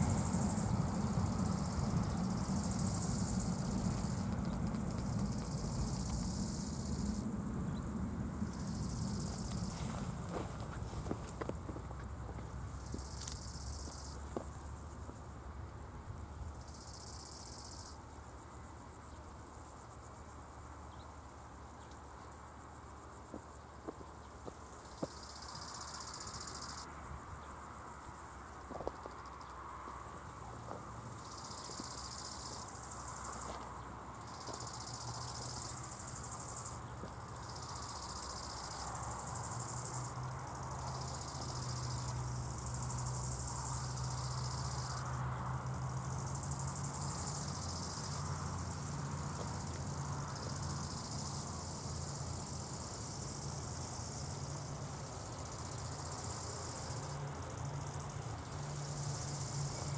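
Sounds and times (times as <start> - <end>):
high-pitched insect chirping: 0.0 - 15.4, 16.1 - 59.9.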